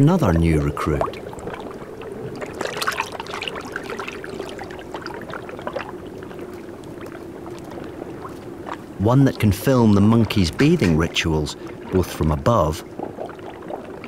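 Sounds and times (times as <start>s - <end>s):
water drips and splashes: 0.0s - 14.0s
water trickling and lapping: 0.0s - 14.0s.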